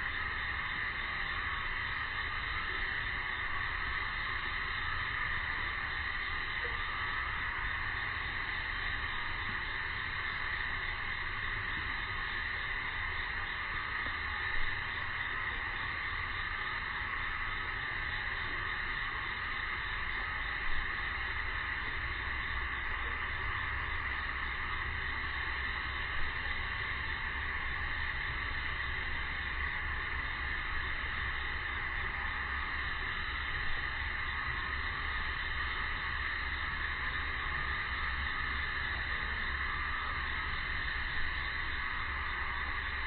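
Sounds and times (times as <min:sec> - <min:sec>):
cicada chorus buzzing: 0:00.0 - 0:43.0.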